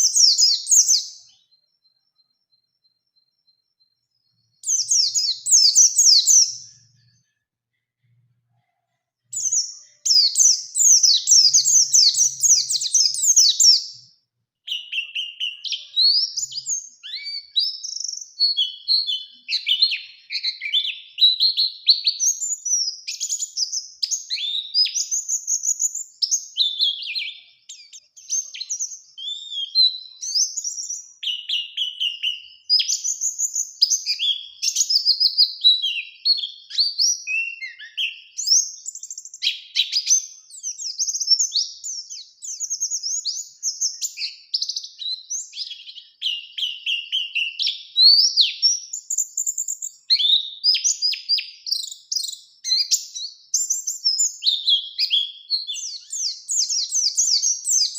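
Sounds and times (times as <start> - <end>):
bird twittering: 0.0 - 3.6, 14.7 - 57.9.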